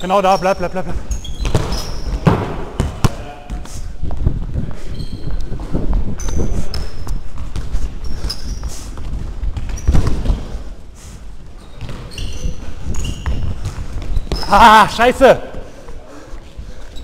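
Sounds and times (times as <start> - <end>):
sneakers squeaking: 0.0 - 15.7, 16.4 - 17.0.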